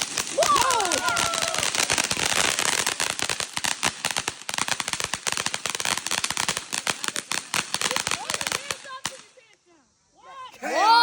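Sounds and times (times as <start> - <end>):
fireworks crackling: 0.0 - 9.8.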